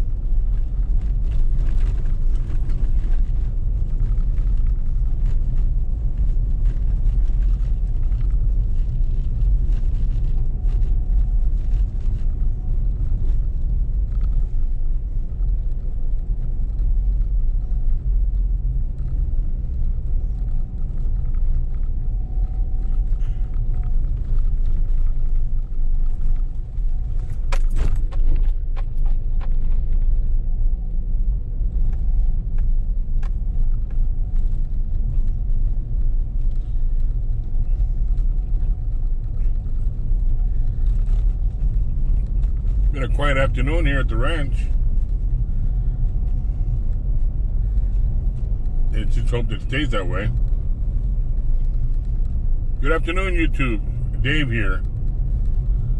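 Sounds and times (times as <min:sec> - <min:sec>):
vehicle driving heard from inside: 0:00.0 - 0:55.9.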